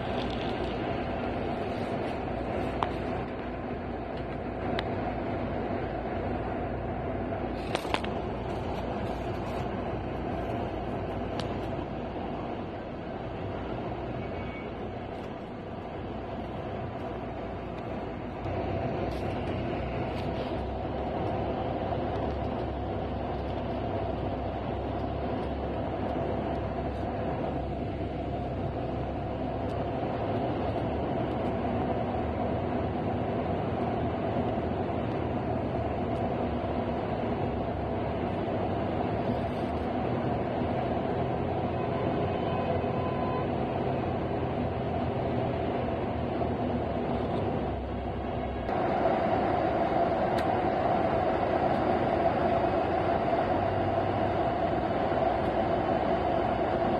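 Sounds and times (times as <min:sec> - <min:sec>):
vehicle engine drone from cabin: 0:00.0 - 0:56.9.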